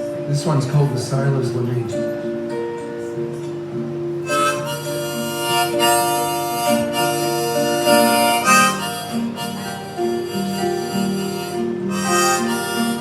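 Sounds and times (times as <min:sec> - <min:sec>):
harmonica playing slow melody: 0:00.0 - 0:13.0
strummed acoustic guitar: 0:00.0 - 0:13.0.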